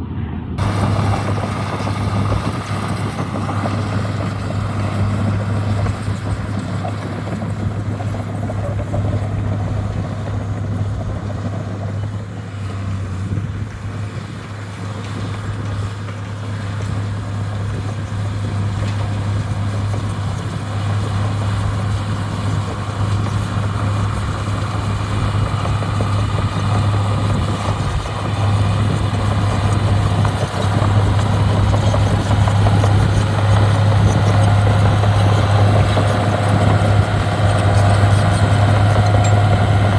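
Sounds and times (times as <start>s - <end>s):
diesel engine running: 0.6s - 39.9s.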